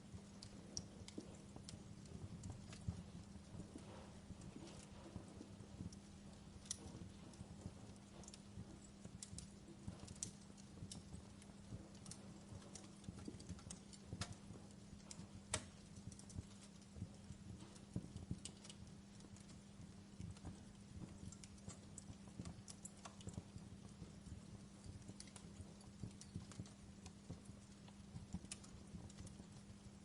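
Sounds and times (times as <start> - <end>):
faint steady hum: 0.0 - 30.0
wood fire crackling: 0.0 - 30.0.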